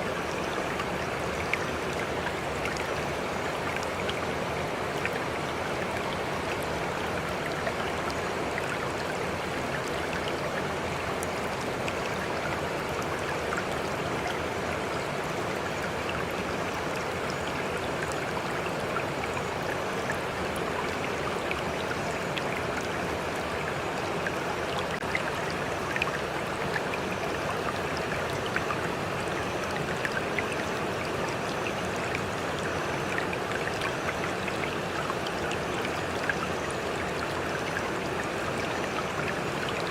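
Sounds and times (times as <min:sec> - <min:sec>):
running water rushing: 0:00.0 - 0:39.9
water splashes and drips: 0:00.0 - 0:39.9.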